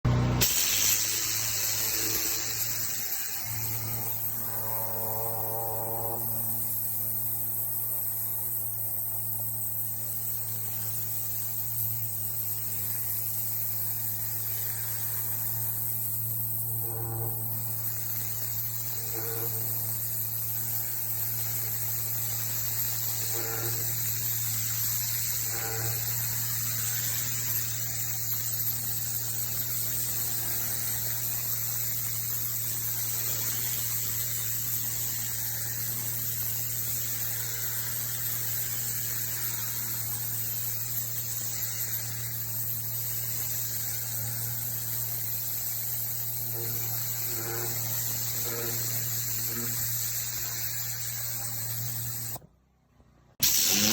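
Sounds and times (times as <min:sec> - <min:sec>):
pressure washer pump hum: 0:00.0 - 0:52.6, 0:53.3 - 0:53.9
water jet spraying onto paving: 0:00.1 - 0:04.6, 0:06.2 - 0:52.4, 0:53.4 - 0:53.9.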